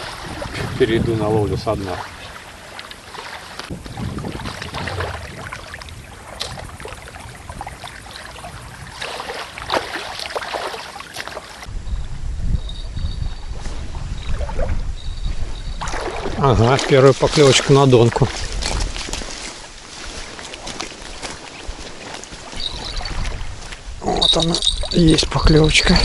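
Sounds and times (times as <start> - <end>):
wind rumbling on microphone: 0.0 - 10.4, 11.6 - 26.0
river water lapping at bank: 0.0 - 11.7, 13.5 - 26.0.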